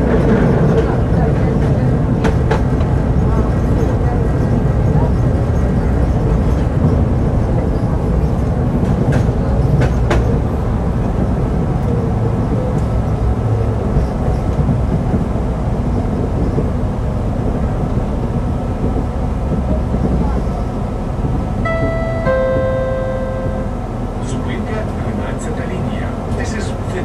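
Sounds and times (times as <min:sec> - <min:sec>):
tram wheels rumbling on rails: 0:00.0 - 0:27.0.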